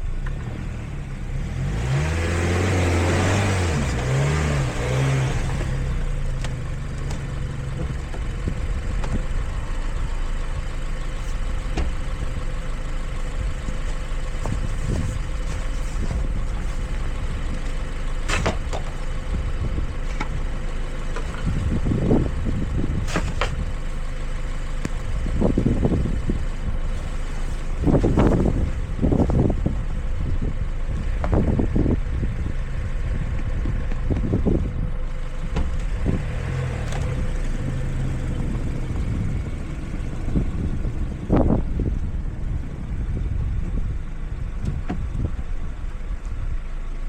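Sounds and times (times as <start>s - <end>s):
car engine low rumble: 0.0s - 47.0s.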